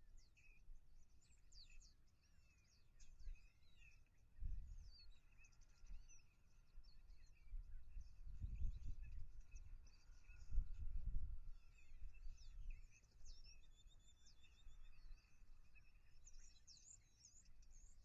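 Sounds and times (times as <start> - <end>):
small birds chirping and calling: 0.0 - 18.0.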